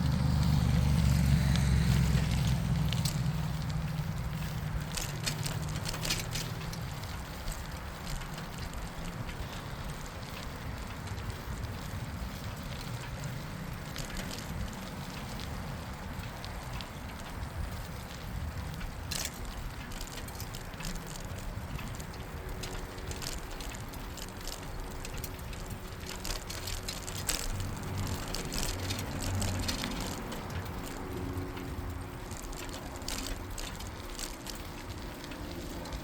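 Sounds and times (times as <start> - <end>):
bicycle tyre noise: 0.0 - 36.0
light clicks and crackles: 0.0 - 36.0
vehicle low rumble: 0.0 - 36.0.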